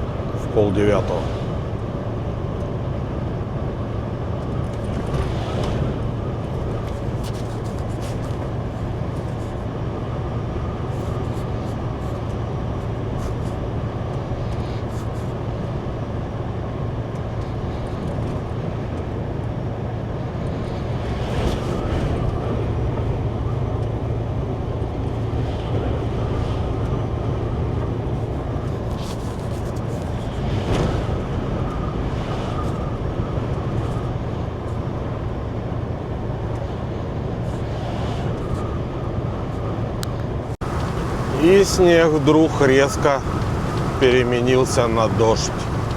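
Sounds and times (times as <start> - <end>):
truck engine and road noise: 0.0 - 45.9.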